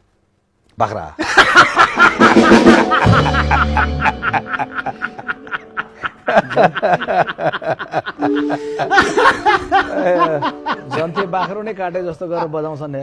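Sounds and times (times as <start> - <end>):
man laughing: 1.2 - 12.6.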